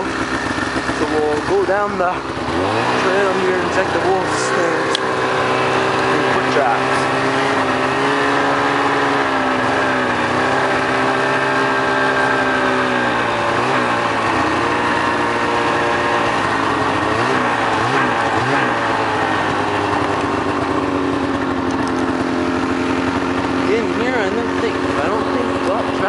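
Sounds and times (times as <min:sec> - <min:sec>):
small vehicle engine running: 0:00.0 - 0:26.0.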